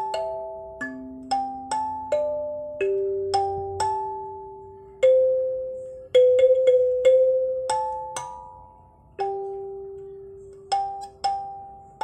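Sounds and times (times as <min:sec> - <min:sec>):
kalimba melody: 0:00.0 - 0:12.0.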